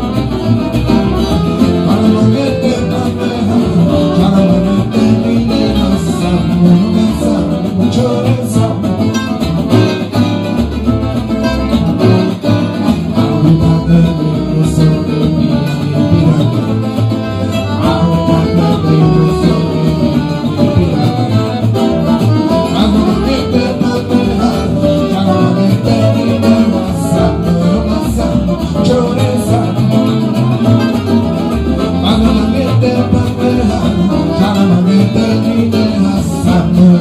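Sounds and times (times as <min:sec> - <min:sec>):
accordion: 0:00.0 - 0:37.0
acoustic guitars: 0:00.0 - 0:37.0
double bass: 0:00.0 - 0:37.0.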